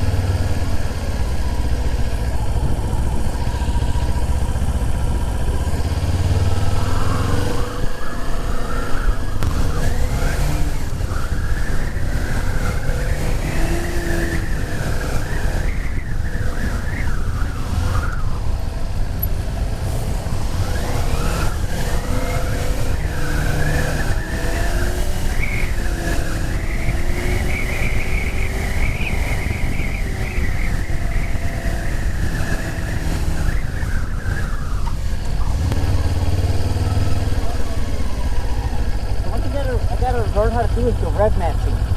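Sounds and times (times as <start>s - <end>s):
motorcycle engine: 0.0s - 41.9s
wind rumble: 0.0s - 41.9s.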